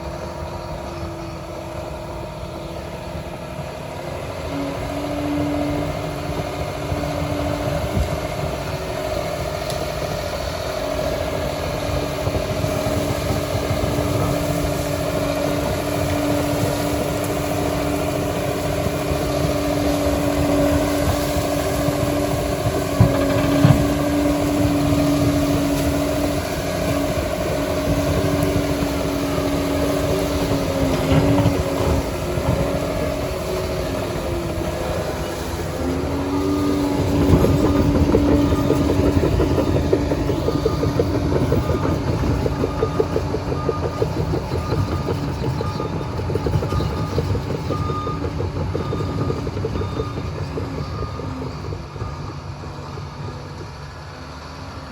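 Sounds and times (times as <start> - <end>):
dozer diesel rumble: 0.0 - 54.9.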